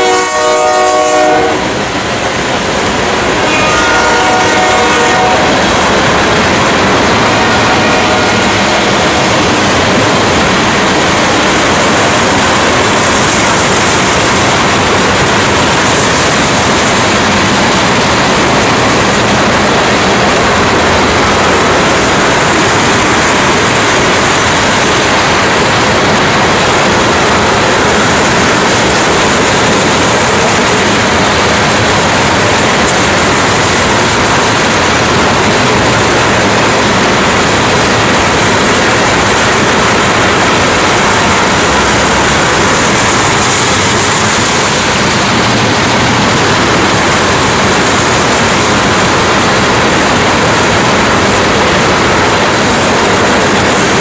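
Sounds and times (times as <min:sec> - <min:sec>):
train wheels rushing on rails: 0:00.0 - 0:54.0.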